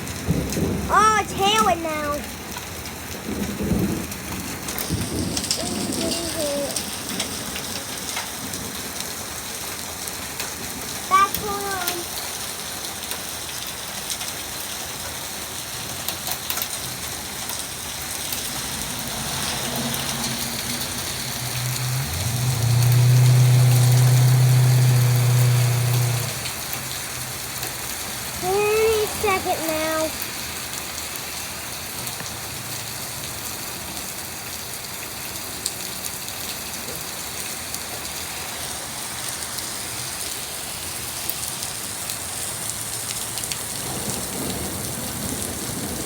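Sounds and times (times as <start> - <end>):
heavy rain and hail: 0.0 - 46.0.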